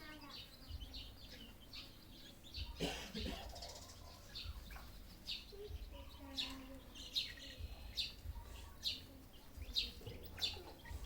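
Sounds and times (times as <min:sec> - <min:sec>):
wild chickens chirping: 0:00.0 - 0:11.0.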